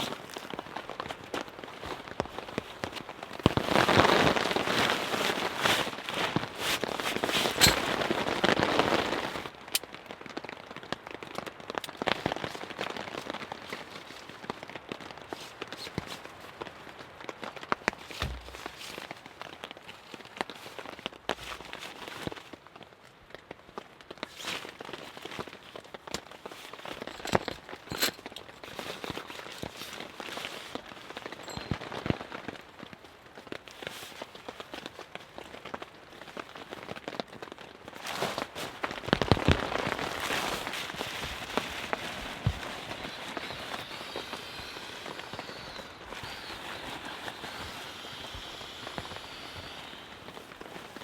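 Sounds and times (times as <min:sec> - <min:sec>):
light rain pattering on a tarp: 0:00.0 - 0:51.0.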